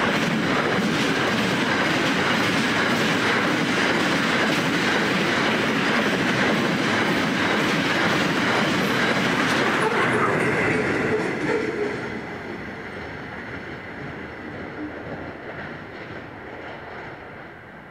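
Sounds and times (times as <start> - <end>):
train wheels rolling on rails: 0.0 - 17.9.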